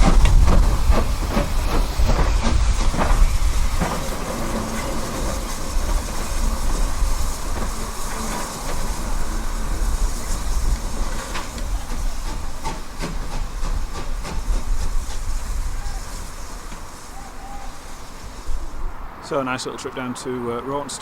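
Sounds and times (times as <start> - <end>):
hiss: 0.0 - 19.6
wheels clicking on rails: 0.0 - 19.9
train rumbling: 0.0 - 21.0.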